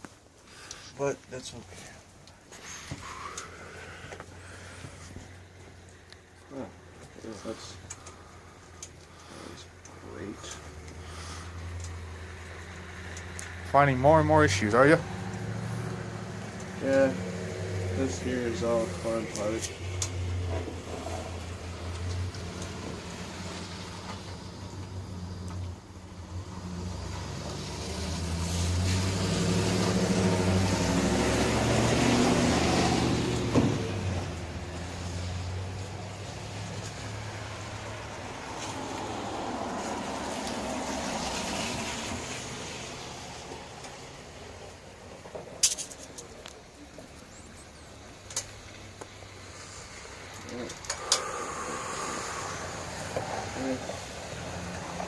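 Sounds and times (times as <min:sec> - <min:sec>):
vehicle engine passing by: 0:09.2 - 0:55.0.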